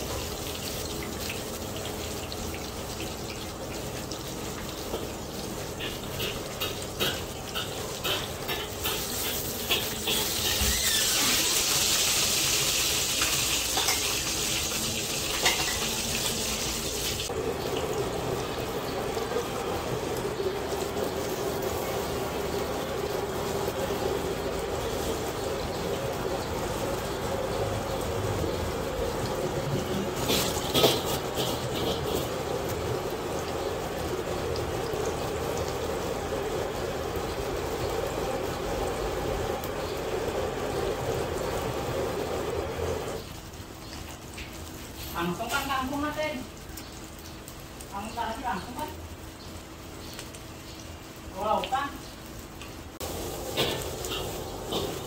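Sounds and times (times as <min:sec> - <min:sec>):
fish deep-frying sizzle: 0:00.0 - 0:55.0.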